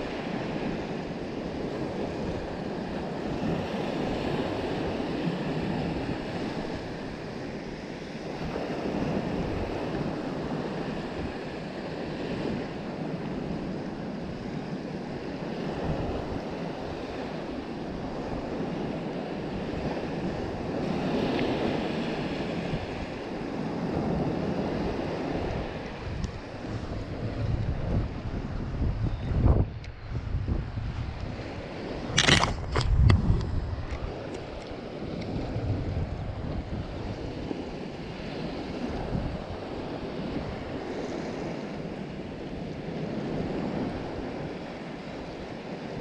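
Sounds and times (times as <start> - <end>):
small waves breaking on a beach: 0.0 - 46.0
wind buffeting the microphone: 0.0 - 46.0.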